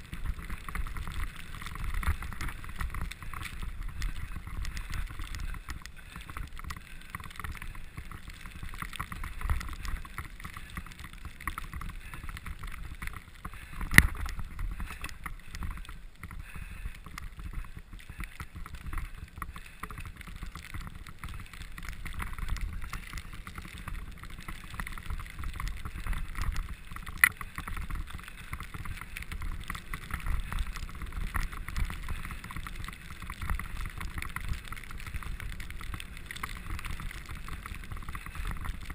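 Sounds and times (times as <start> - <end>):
bike tyres rumbling on snow: 0.0 - 38.9
wind: 0.0 - 38.9.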